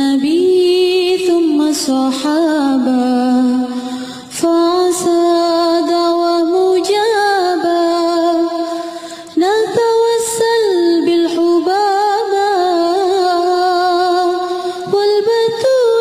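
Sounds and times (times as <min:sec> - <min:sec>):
woman singing with vibrato: 0:00.0 - 0:16.0.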